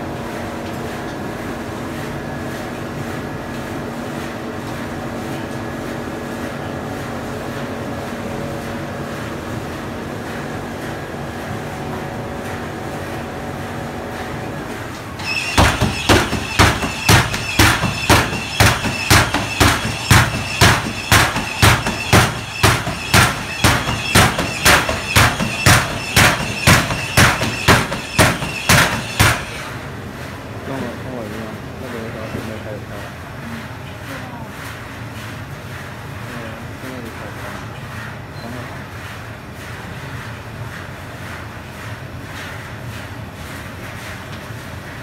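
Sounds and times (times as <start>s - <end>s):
machine mechanical hum: 0.0s - 45.0s
machine knocking and squeaking: 1.9s - 45.0s.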